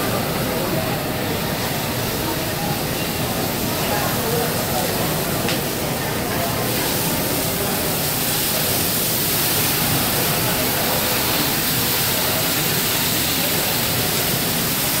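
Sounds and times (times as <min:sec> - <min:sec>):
food sizzling on a grill: 0:00.0 - 0:15.0.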